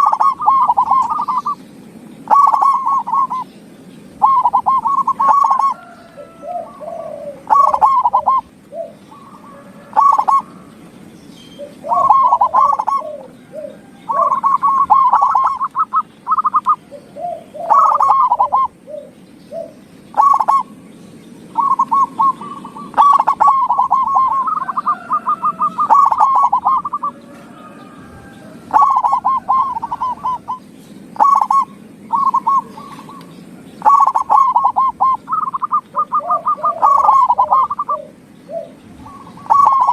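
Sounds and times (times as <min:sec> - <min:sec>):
doves cooing in trilled notes: 0:00.0 - 0:39.9
lower bird call: 0:00.0 - 0:39.9.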